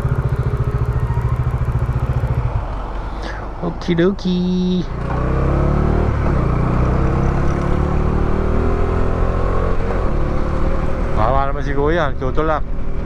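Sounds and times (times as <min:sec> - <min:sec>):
motorcycle engine accelerating: 0:00.0 - 0:03.0, 0:04.6 - 0:13.0.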